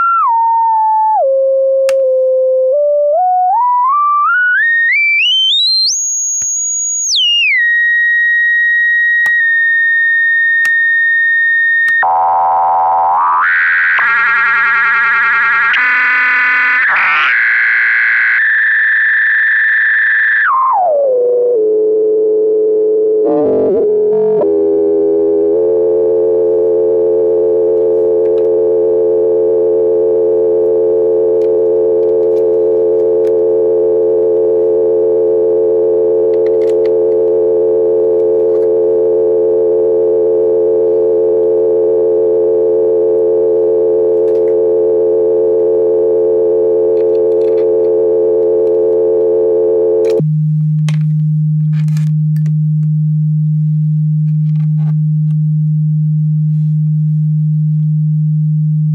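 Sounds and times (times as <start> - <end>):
electronic oscillator tone: 0.0 - 58.9.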